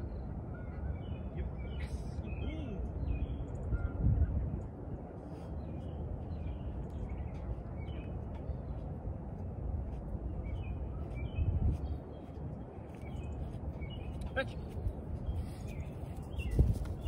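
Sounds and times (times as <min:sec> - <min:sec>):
small birds chirping: 0:00.0 - 0:09.0, 0:09.9 - 0:17.0.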